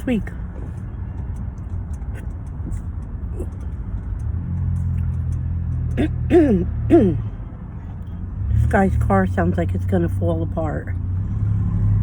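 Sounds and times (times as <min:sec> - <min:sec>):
car engine rumbling: 0:00.0 - 0:12.0
rough-running car approaching: 0:00.0 - 0:12.0.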